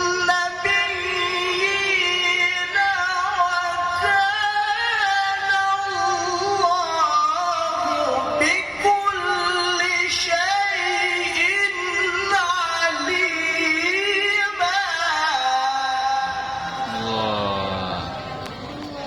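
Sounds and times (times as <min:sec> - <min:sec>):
man reciting melodically: 0:00.0 - 0:18.4.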